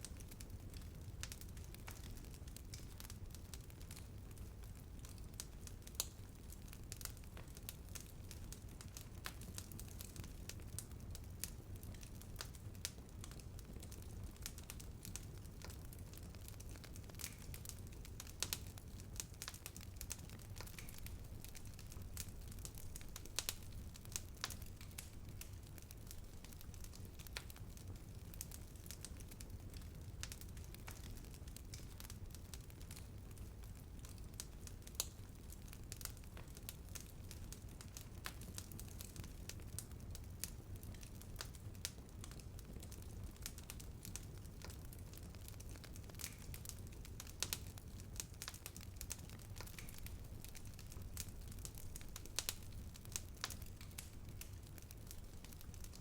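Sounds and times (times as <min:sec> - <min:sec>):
fire rumble: 0:00.0 - 0:56.0
wood fire crackling and popping: 0:00.0 - 0:56.0.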